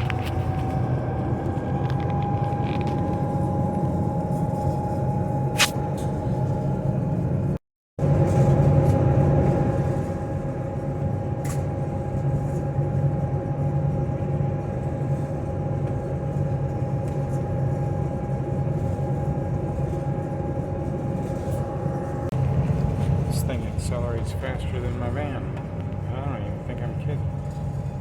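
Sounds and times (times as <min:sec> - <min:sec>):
ferry engines droning: 0:00.0 - 0:28.0.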